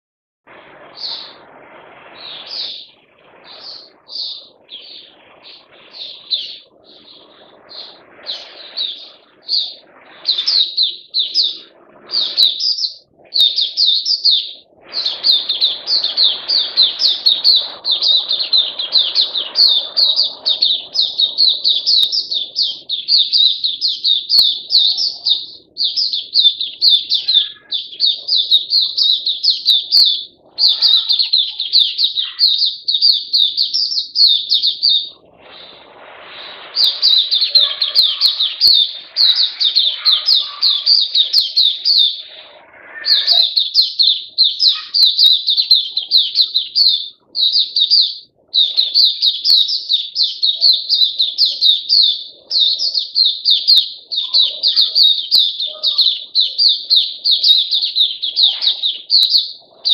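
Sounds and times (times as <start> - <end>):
bird chirping song: 0.5 - 59.9.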